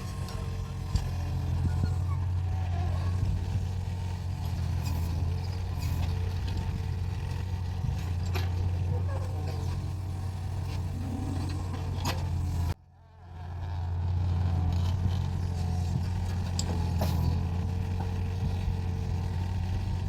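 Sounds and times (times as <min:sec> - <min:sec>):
excavator engine running: 0:00.0 - 0:12.8, 0:13.4 - 0:20.0.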